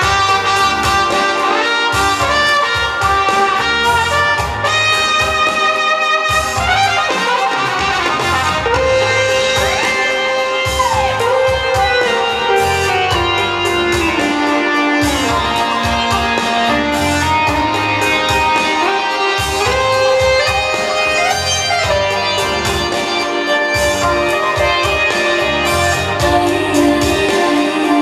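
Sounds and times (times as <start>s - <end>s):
sliding melody line: 0.0s - 28.0s
steady beat: 0.0s - 28.0s.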